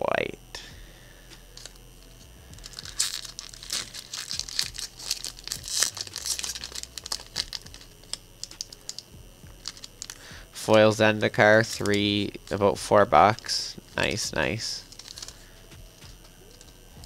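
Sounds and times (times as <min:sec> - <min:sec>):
foil wrapper crinkling and tearing: 0:01.5 - 0:16.8.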